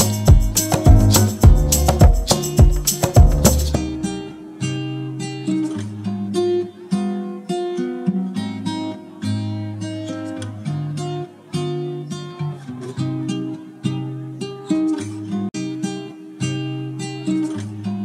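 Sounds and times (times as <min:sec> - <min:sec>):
acoustic guitar picking melody: 0:00.0 - 0:18.0.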